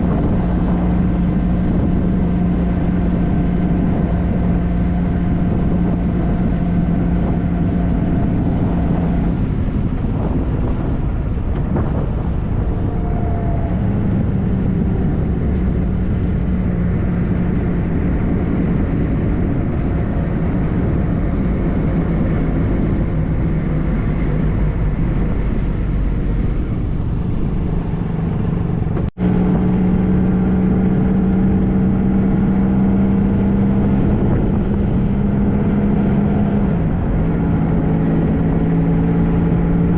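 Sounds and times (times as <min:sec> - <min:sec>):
motorcycle engine cruising: 0:00.0 - 0:39.9
wind rushing: 0:00.0 - 0:39.9.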